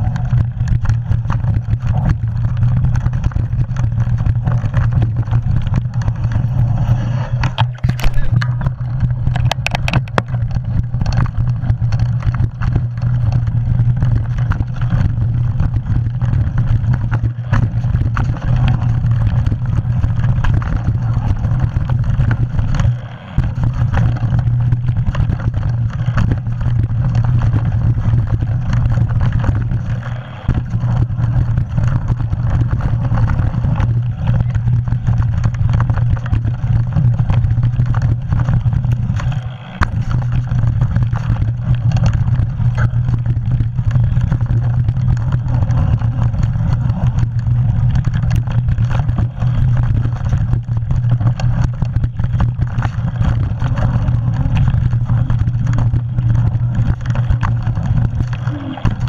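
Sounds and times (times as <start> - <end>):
bike rattling over rough ground: 0.0 - 59.0.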